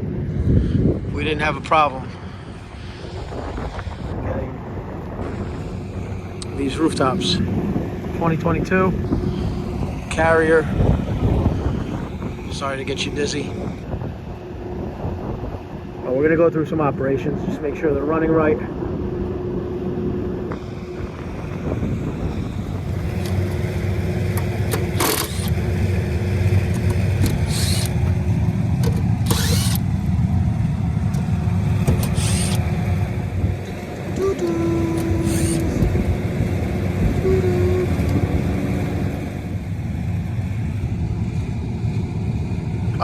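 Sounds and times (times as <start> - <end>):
rooftop air conditioner rumbling: 0.0 - 43.0.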